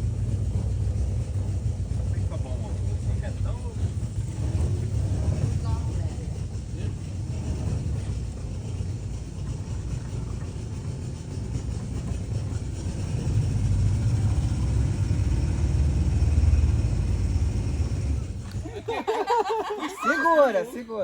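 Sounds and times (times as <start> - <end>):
boat motor rumble: 0.0 - 19.8.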